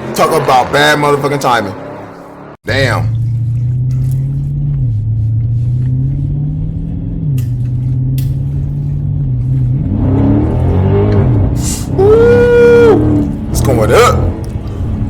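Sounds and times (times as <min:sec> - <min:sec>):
car engine running and revving: 0:00.0 - 0:15.0.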